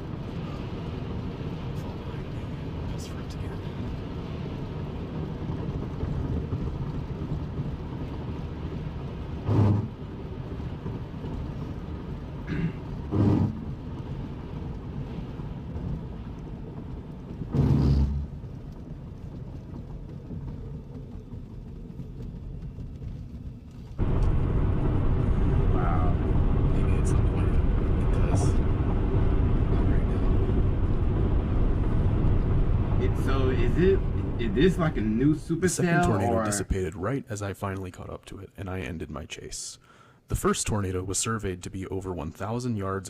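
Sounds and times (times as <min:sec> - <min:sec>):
low rumble of wind: 0:00.0 - 0:43.0.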